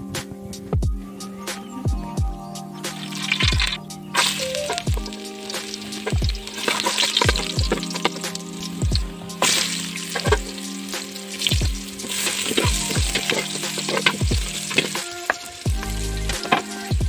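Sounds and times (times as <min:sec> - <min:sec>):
vegetables sizzling in hot oil: 0:03.0 - 0:17.0.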